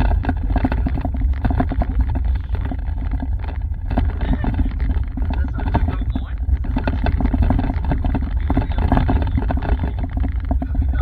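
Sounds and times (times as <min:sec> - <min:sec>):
car cabin low rumble: 0:00.0 - 0:11.0
rapid clicks and rattles: 0:00.0 - 0:11.0.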